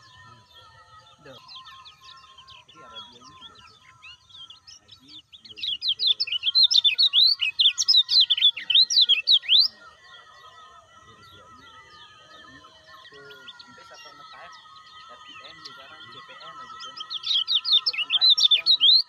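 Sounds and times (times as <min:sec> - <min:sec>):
bird chattering and twittering: 0:00.0 - 0:19.0
faint bird chirps and whistles: 0:00.0 - 0:19.0.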